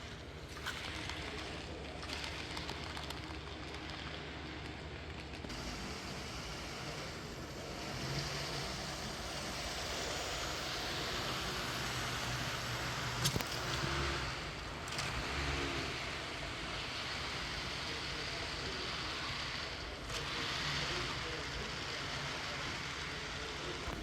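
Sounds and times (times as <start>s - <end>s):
model locomotive rushing: 0.0s - 24.0s.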